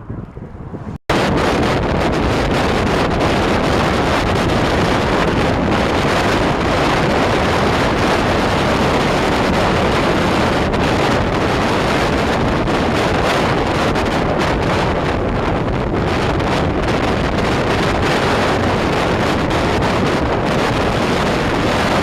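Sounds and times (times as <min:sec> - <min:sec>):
strong wind on microphone: 0:00.0 - 0:22.0.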